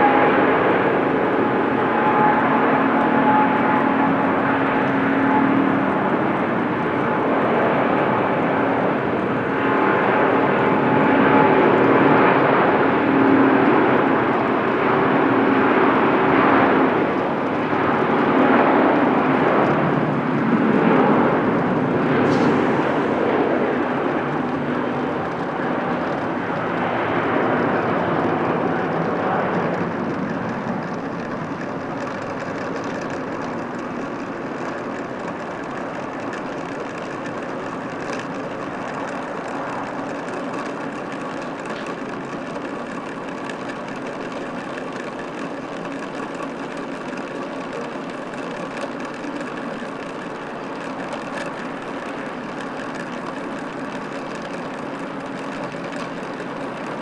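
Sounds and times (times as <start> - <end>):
jet engines at takeoff: 0.0 - 57.0.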